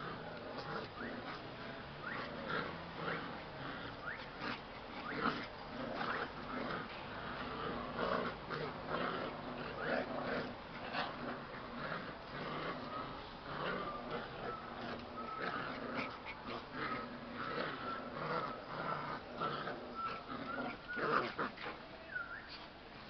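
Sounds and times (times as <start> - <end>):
puppies growling and yelping: 0.0 - 22.2.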